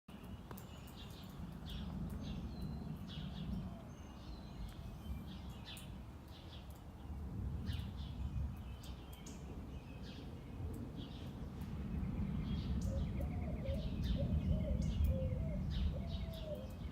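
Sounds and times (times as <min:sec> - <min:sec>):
small birds chirping: 0:00.1 - 0:16.9.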